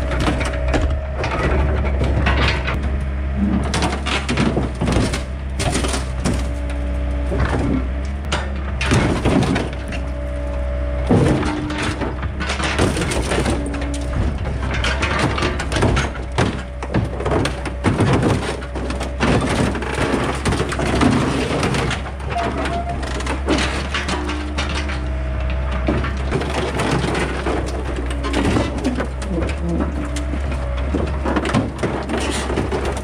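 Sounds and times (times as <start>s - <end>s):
excavator crushing sheet metal: 0.0s - 33.0s
excavator engine running: 0.0s - 33.0s.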